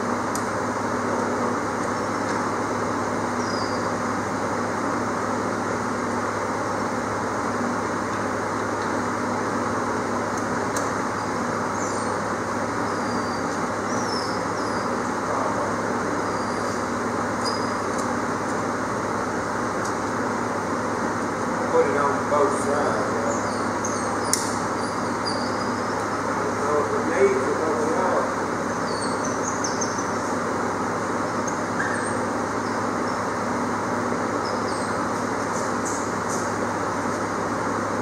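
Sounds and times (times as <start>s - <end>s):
fan or motor humming: 0.0s - 38.0s.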